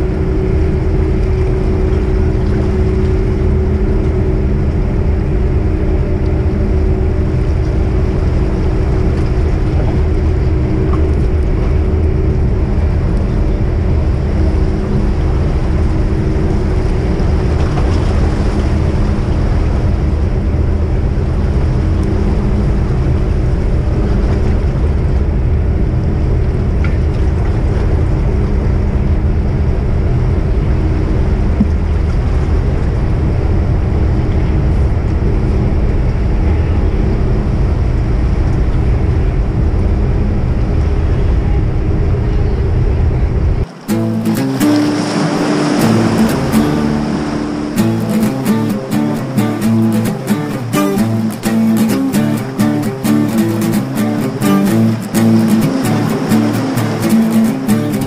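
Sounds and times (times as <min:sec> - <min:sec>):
ship diesel engines droning: 0:00.0 - 0:58.0.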